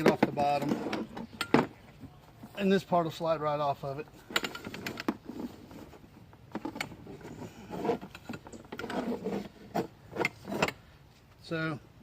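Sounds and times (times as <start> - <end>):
rustling and scraping: 0.0 - 11.4.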